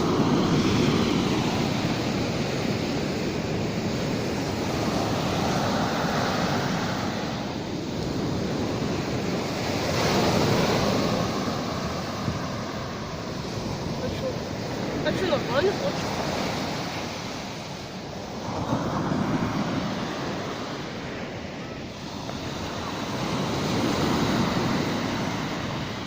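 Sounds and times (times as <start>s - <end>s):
sea surf washing onto beach: 0.0s - 26.0s
wind noise on microphone: 0.0s - 26.0s.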